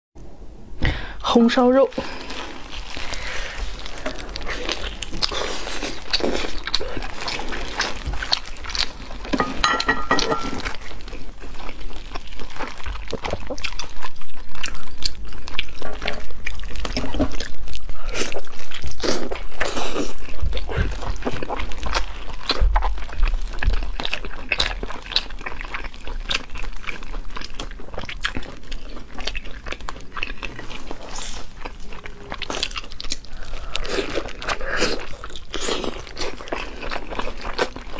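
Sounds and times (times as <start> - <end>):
person chewing food: 2.1 - 37.9.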